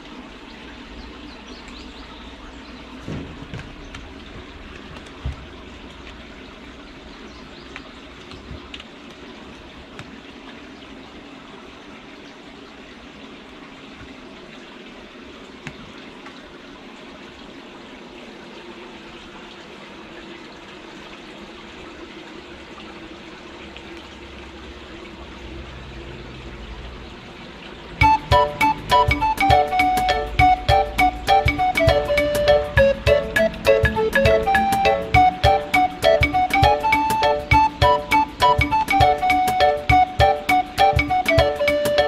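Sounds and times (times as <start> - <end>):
trickling running water: 0.0 - 42.0.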